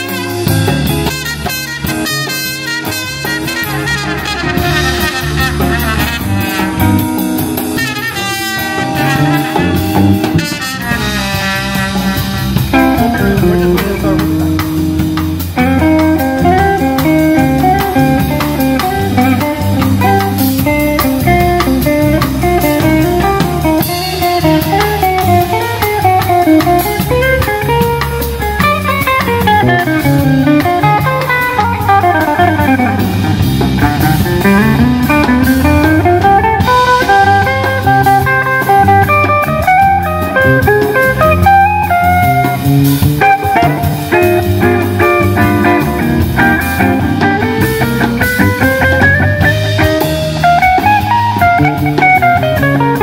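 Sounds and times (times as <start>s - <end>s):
guitar-led instrumental with drums: 0.0s - 53.0s.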